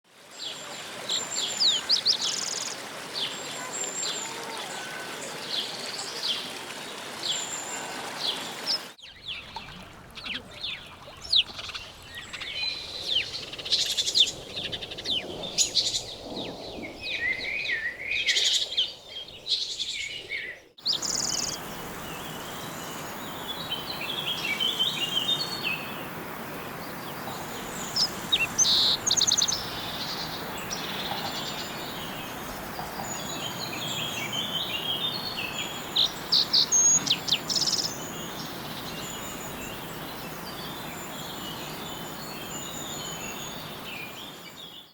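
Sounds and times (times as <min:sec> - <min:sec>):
outdoor ambience hiss: 0:00.1 - 0:44.8
birds chirping: 0:00.4 - 0:44.9.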